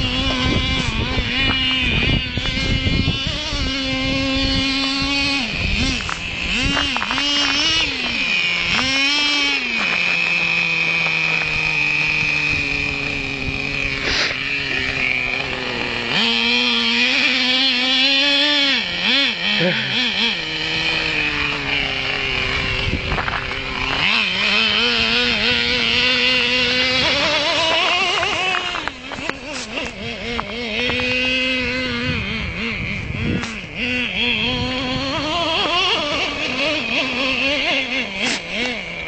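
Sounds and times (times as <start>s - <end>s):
small nitro engine revving: 0.0s - 39.0s.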